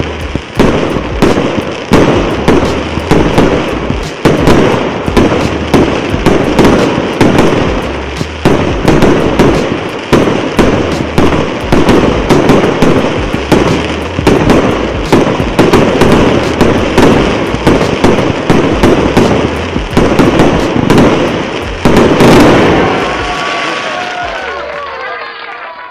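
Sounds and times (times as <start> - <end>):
sharp firework pops: 0.0 - 23.4
fireworks firing and bursting: 0.0 - 25.9.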